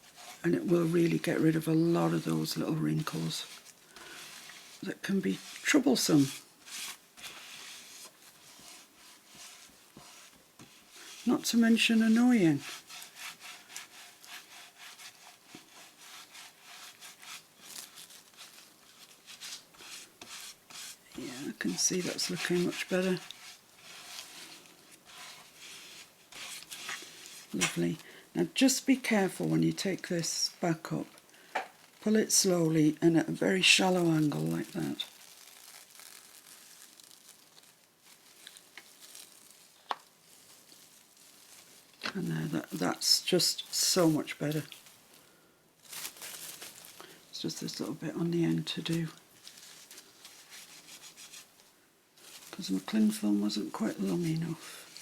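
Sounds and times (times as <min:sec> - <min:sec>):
hand rubbing over cling film: 0:00.0 - 0:55.0.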